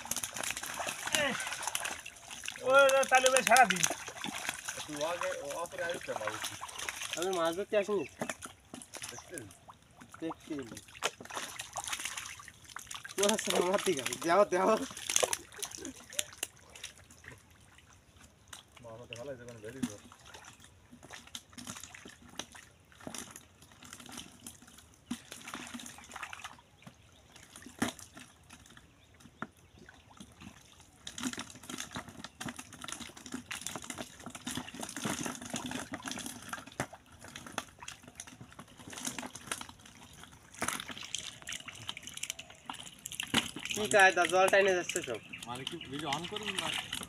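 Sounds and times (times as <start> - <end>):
hands splashing in muddy water: 0.0 - 17.4, 19.8 - 47.0.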